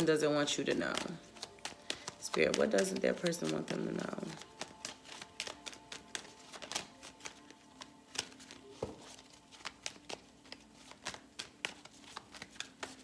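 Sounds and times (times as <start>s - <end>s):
cards being shuffled by hand: 0.0s - 13.0s.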